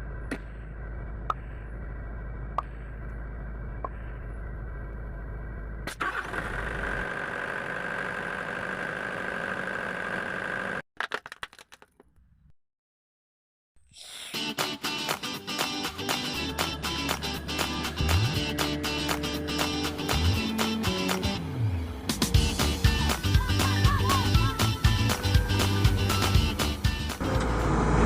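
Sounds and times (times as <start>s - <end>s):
diesel engine running: 0.0s - 10.8s, 16.1s - 28.0s.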